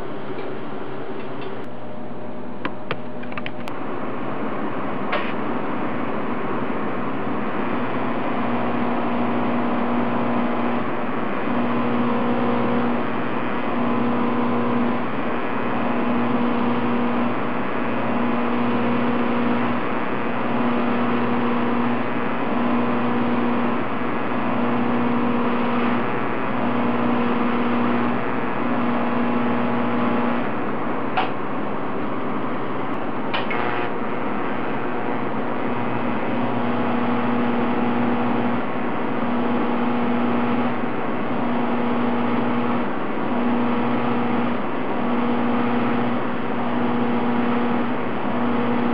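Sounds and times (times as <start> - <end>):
low hum: 0.0 - 48.9
welding arc buzzing hiss: 0.0 - 48.9.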